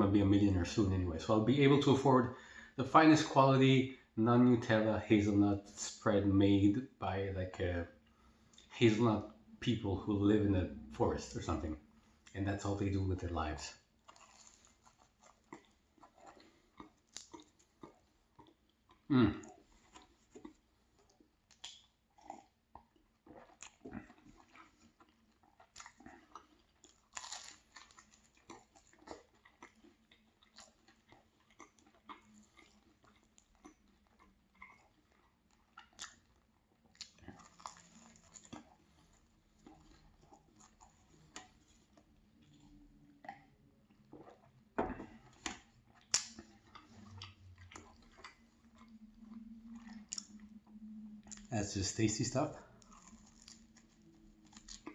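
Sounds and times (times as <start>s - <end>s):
chewing and crunching pastry: 0.0s - 54.9s.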